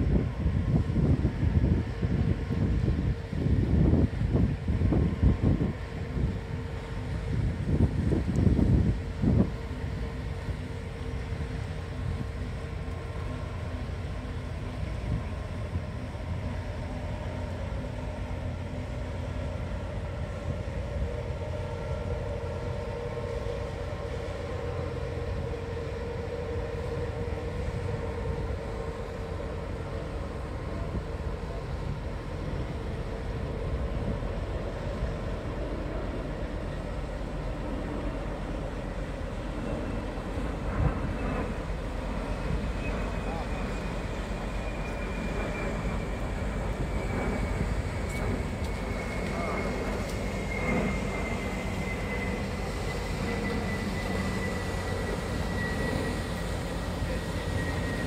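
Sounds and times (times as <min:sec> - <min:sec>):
ship diesel engines rumbling: 0:00.0 - 0:58.0.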